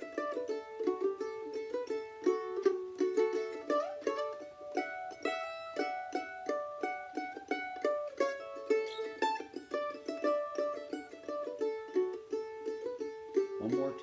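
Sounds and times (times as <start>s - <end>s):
mandolin picking: 0.0s - 14.0s.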